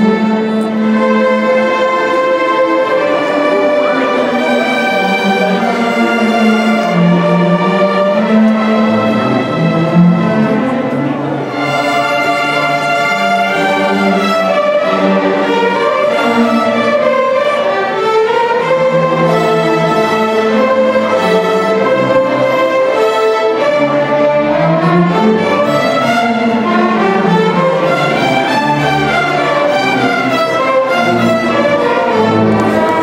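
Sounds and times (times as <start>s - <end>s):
string orchestra playing: 0.0s - 33.0s.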